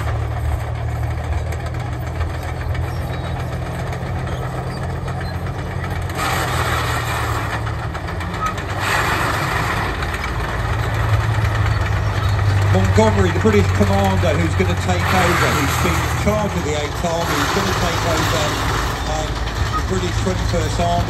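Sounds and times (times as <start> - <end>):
tank engine humming: 0.0 - 21.0.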